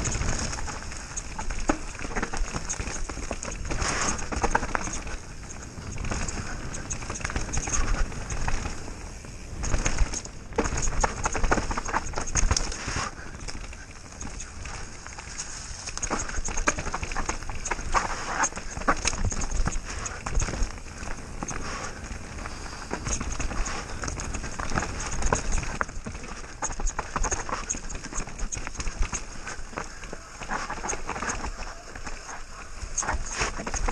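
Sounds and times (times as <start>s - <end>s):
bike rattling over bumps: 0.0s - 33.9s
bike tyres crunching on dirt: 0.0s - 33.9s
wind rumble on microphone: 0.0s - 33.9s.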